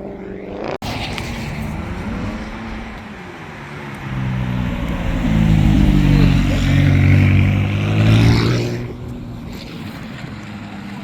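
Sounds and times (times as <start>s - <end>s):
car engine revving: 0.6s - 10.6s.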